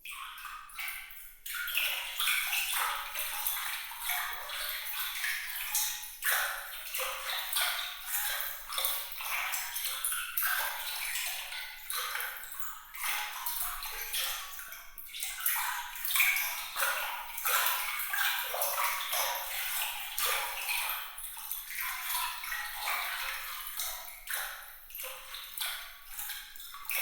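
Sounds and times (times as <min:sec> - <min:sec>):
water trickling and dripping: 0:00.0 - 0:27.0.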